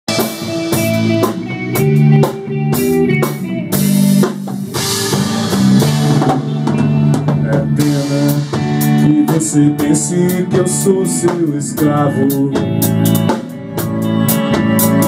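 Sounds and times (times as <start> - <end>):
drum kit beat: 0.1 - 15.0
guitar chords: 0.1 - 15.0.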